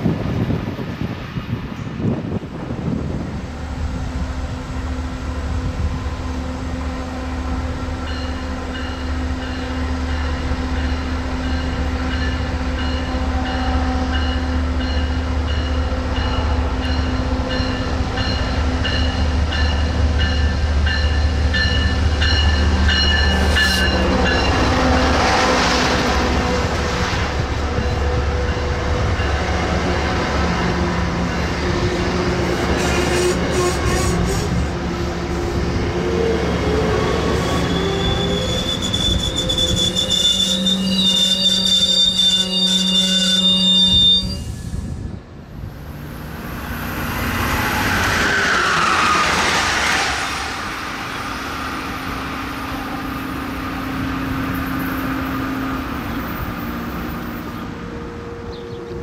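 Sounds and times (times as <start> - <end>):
rush of wheels on rails: 0.0 - 59.0
train low rumble: 0.0 - 59.0.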